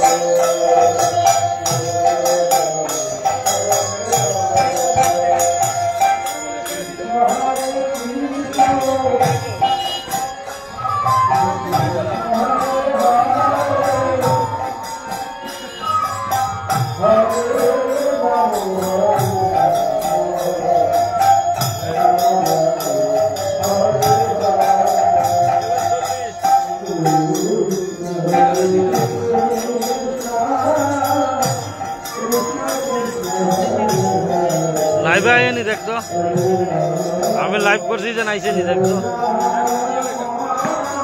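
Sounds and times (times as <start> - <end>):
jingling hand cymbals: 0.0 - 41.0.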